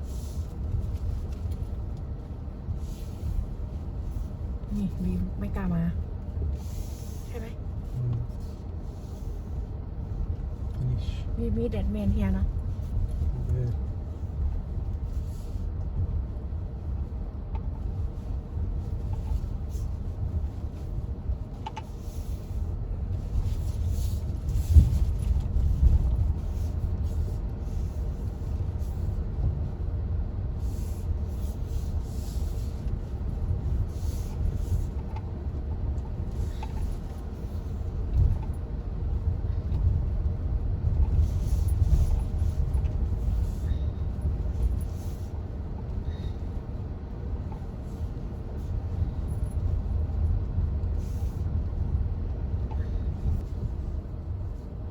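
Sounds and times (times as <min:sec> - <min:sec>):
vehicle rumbling over rough track: 0:00.0 - 0:54.9.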